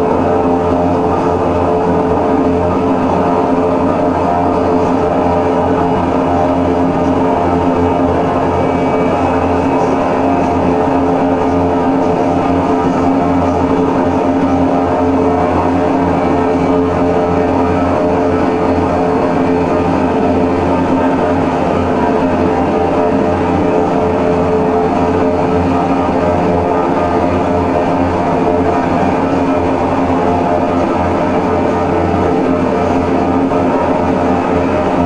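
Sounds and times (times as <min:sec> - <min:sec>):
loud drone noise music: 0:00.0 - 0:35.0.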